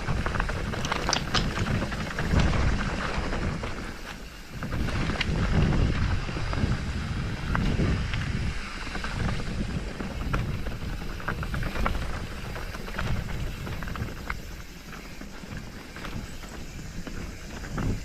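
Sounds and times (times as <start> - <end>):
footsteps on stony path: 0.0 - 18.0
wind buffeting microphone: 0.0 - 18.0.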